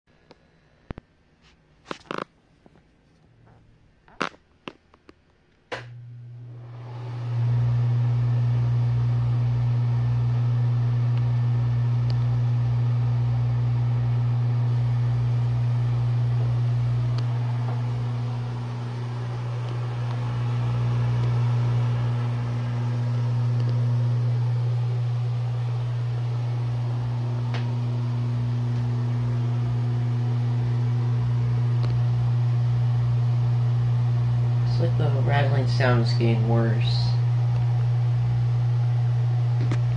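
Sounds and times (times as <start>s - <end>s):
exhaust fan humming and rattling: 5.7s - 39.9s.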